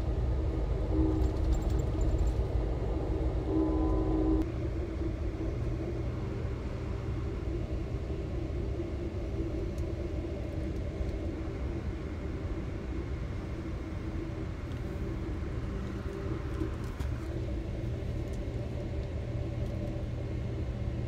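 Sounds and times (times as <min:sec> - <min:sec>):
droning hum: 0:00.0 - 0:21.0
moving train rumble: 0:00.0 - 0:21.0.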